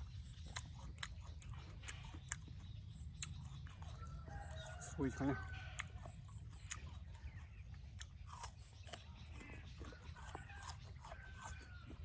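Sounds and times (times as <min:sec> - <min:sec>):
apple crunching while chewed: 0:00.0 - 0:12.0.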